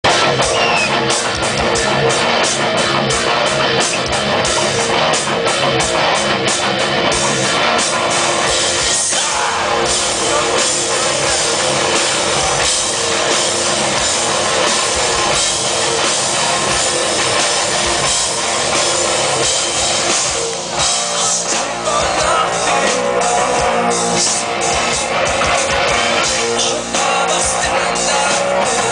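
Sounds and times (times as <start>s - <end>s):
bass guitar: 0.0s - 28.9s
drum kit beat: 0.0s - 28.9s
electric guitar: 0.0s - 28.9s.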